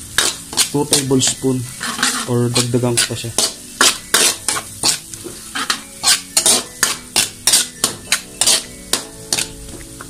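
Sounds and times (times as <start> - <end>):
metal ladle scraping a wok: 0.0 - 9.8
food sauteing in oil: 0.0 - 10.0.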